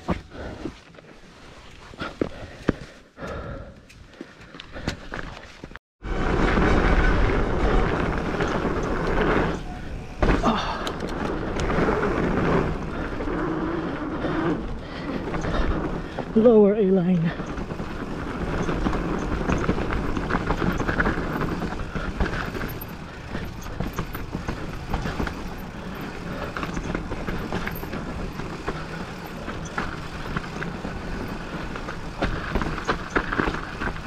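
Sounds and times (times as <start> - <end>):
bike tyre and wind rush: 0.0 - 34.0
bike rattling over rough ground: 3.8 - 34.0.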